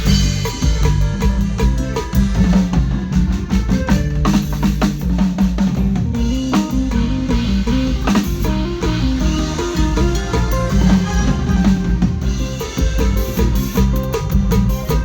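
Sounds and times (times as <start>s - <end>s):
band playing: 0.0s - 15.0s
drum kit kick and snare: 0.0s - 15.0s.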